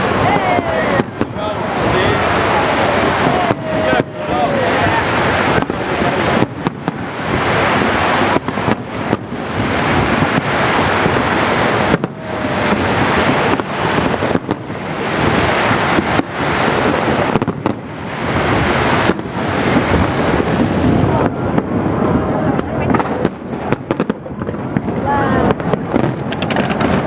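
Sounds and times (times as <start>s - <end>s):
fireworks bursts and crackling: 0.0s - 27.0s.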